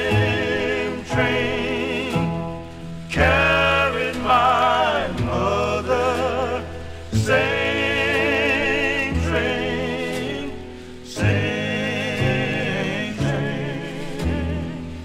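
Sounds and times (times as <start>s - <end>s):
male vocal quartet singing: 0.0s - 15.0s.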